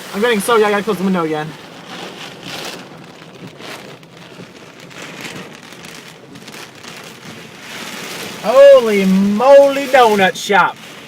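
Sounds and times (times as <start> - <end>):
heavy rain beating on a car: 0.0 - 11.0.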